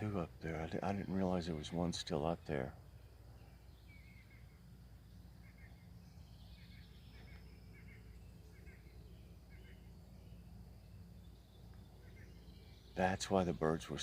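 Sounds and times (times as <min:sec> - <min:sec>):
bird calls: 0:00.0 - 0:14.0
low background hum: 0:00.0 - 0:14.0.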